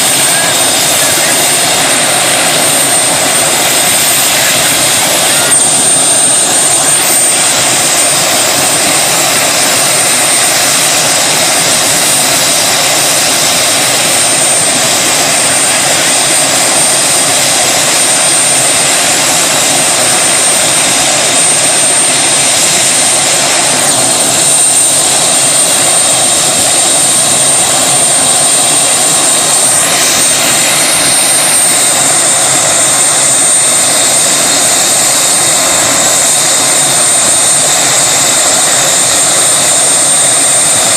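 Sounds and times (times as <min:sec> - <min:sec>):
helicopter rotor and engine noise: 0:00.0 - 0:40.9
thin high whine: 0:00.0 - 0:40.9.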